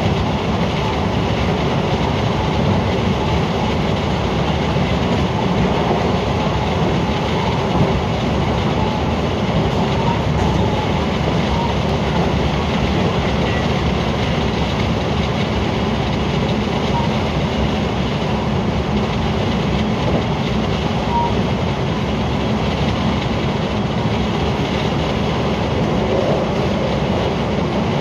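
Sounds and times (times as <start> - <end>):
train running on rails: 0.0 - 28.0.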